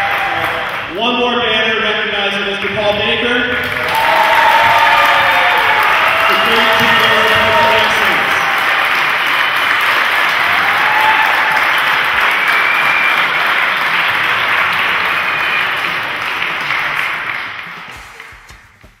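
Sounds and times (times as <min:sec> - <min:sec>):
crowd applauding: 0:00.0 - 0:01.0, 0:03.6 - 0:19.0.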